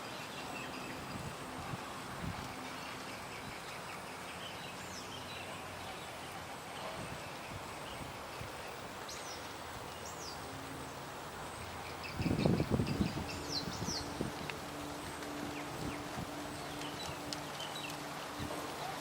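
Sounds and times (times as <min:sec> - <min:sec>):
steady background hiss: 0:00.0 - 0:19.0
birds chirping: 0:02.5 - 0:18.5.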